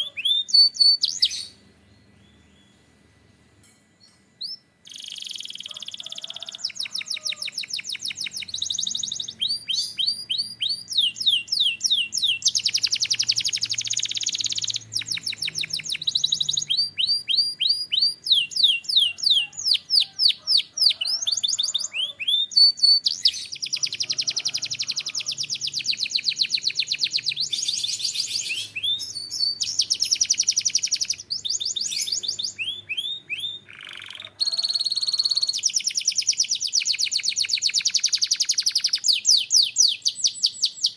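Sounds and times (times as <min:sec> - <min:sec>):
canary singing rapid trills: 0:00.0 - 0:01.6, 0:04.4 - 0:40.9.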